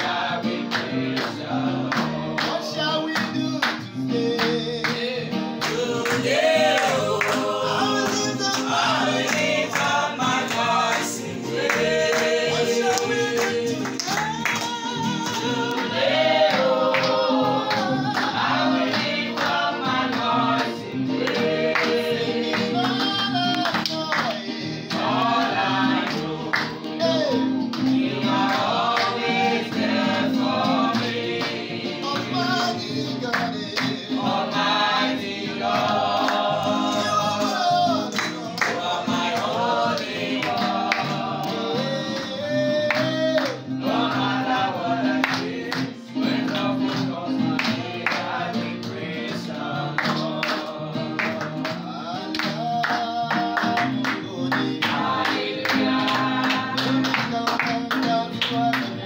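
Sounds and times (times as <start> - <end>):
acoustic guitar: 0.0 - 59.0
group singing gospel song: 0.0 - 59.0
hand clapping: 0.0 - 59.0.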